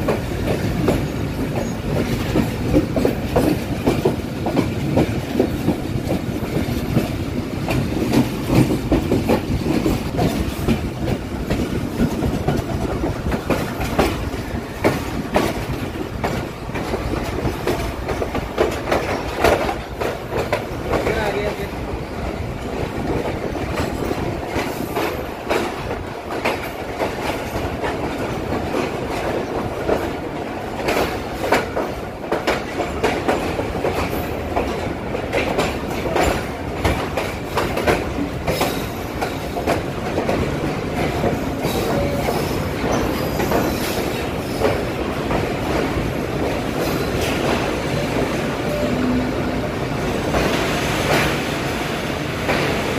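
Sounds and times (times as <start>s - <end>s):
train running rumble: 0.0s - 52.9s
train wheels clattering over rail joints: 0.0s - 52.9s.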